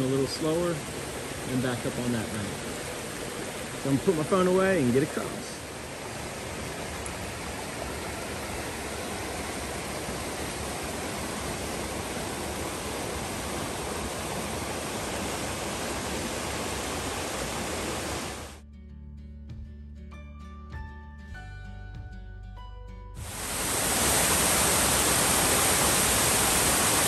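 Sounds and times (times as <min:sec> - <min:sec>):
river water rushing: 0:00.0 - 0:18.6, 0:23.2 - 0:27.0.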